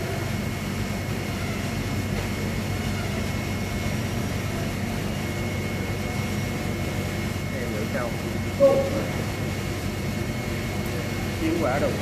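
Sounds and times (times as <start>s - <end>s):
constant high whine: 0.0s - 12.0s
low mechanical drone: 0.0s - 12.0s.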